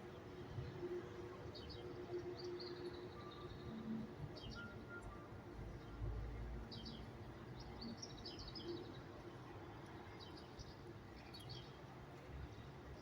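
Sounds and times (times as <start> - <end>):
faint low background noise: 0.0 - 13.0.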